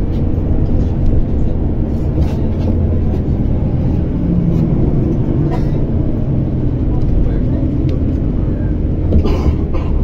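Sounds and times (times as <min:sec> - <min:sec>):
low motor hum: 0:00.0 - 0:10.0
tram rumbling on track: 0:00.0 - 0:10.0.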